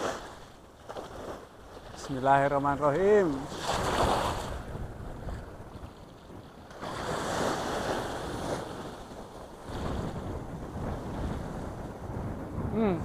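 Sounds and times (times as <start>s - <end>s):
waves breaking on beach: 0.0s - 13.0s
wind buffeting microphone: 0.0s - 13.0s.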